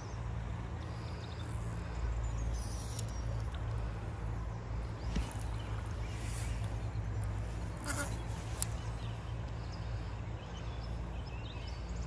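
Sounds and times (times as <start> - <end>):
constant low rumble: 0.0 - 12.0.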